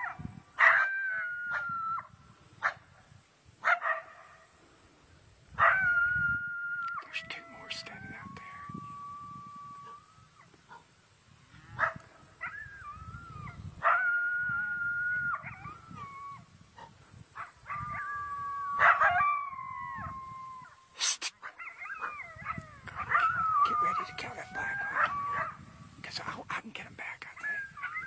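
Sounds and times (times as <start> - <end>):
coyotes howling and yipping: 0.0 - 3.0, 5.5 - 26.0, 27.2 - 28.0.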